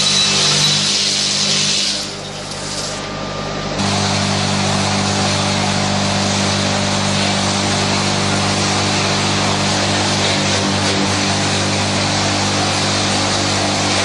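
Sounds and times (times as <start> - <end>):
lathe machine hum: 0.0 - 14.0
tool cutting spinning wood: 0.0 - 14.0.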